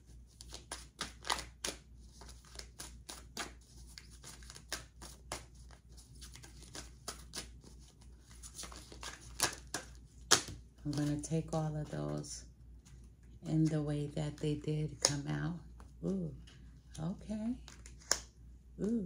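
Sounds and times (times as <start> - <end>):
cards being shuffled: 0.3 - 13.7, 14.9 - 19.0.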